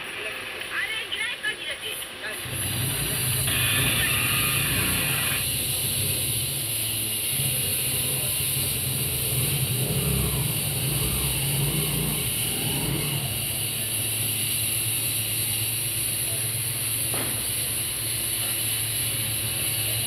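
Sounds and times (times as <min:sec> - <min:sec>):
low engine-like hum: 0:02.4 - 0:20.0.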